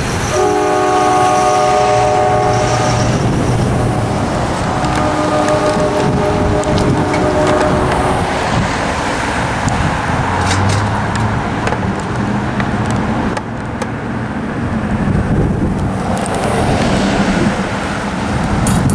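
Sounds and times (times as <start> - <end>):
road traffic rumble: 0.0 - 18.9.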